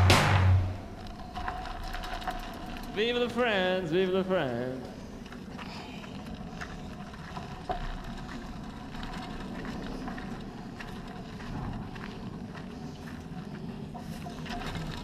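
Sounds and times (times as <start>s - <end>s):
bicycle tyre and wind noise: 0.0s - 15.0s
bicycle clicks and rattles: 0.8s - 15.0s.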